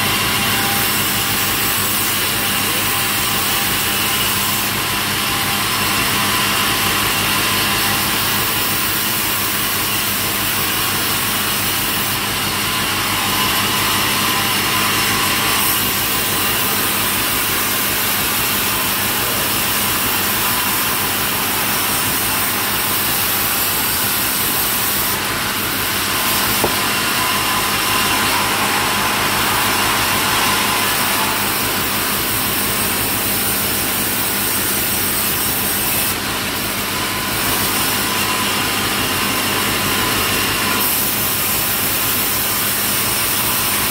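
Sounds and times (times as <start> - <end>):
sawmill saw running loudly: 0.0 - 43.9.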